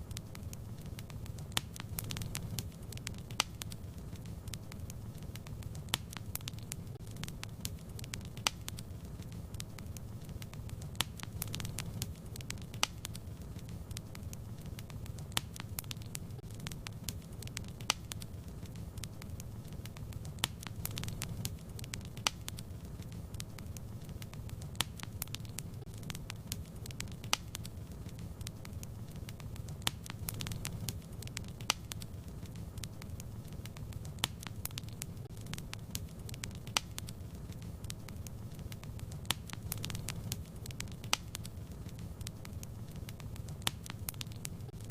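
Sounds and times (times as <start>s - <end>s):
wood fire burning: 0.0s - 44.9s.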